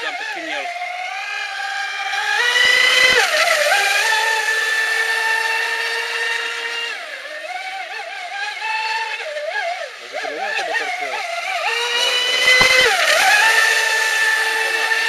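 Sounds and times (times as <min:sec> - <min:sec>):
model boat motor whining: 0:00.0 - 0:15.0.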